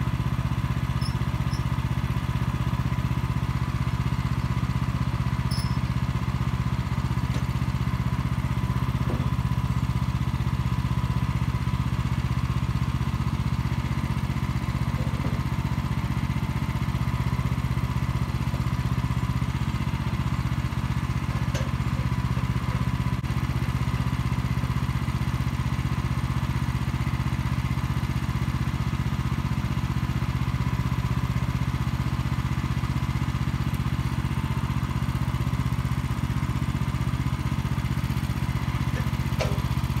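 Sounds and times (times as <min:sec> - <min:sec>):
sawmill engine running: 0:00.0 - 0:40.0.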